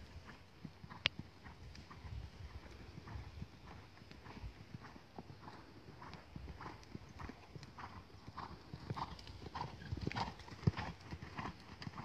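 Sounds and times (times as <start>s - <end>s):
horse hooves on sand: 0.0s - 12.0s.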